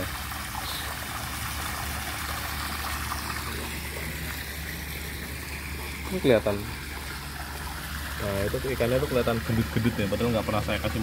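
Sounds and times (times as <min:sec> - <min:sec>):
low steady hum: 0:00.0 - 0:11.0
water pouring from pipe: 0:00.0 - 0:11.0
water splashing and trickling: 0:00.0 - 0:11.0.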